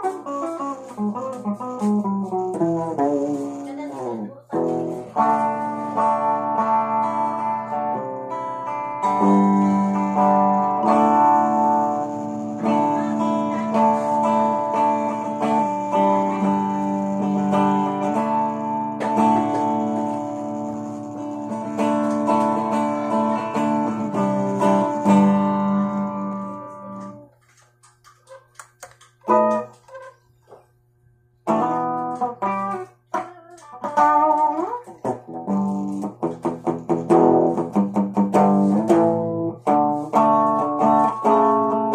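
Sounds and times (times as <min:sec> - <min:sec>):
clean electric guitar playing: 0:00.0 - 0:27.3, 0:29.2 - 0:30.2, 0:31.4 - 0:41.9.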